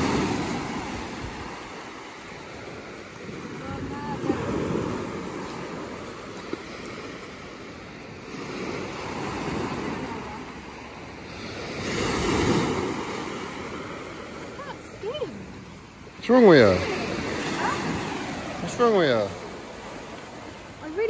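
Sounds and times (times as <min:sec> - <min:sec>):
waves breaking on pebble beach: 0:00.0 - 0:21.0.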